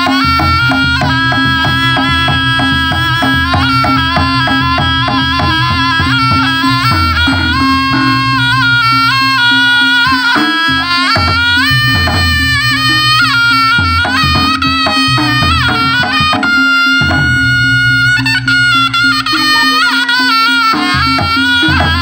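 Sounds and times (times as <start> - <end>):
hand drumming: 0.0 - 22.0
shawm reed melody: 0.0 - 22.0.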